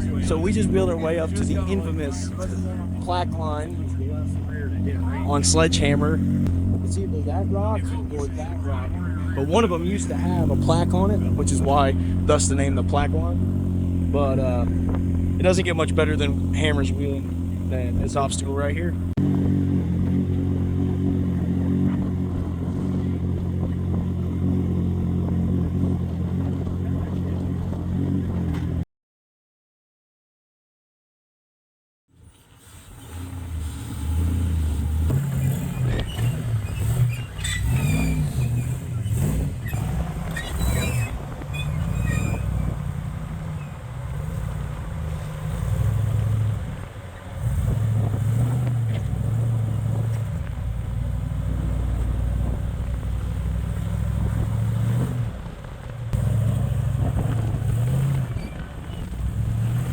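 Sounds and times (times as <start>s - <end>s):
off-road vehicle engine running: 0.0s - 28.8s, 32.2s - 59.9s.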